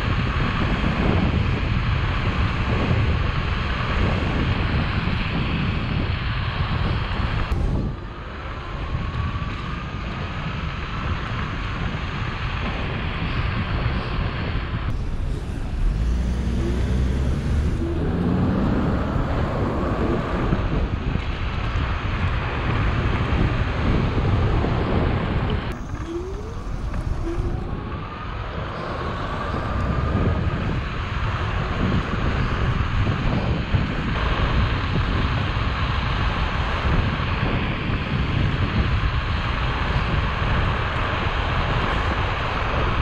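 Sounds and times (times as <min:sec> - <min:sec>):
road rumble: 0:00.0 - 0:43.0
wind on microphone: 0:00.0 - 0:43.0.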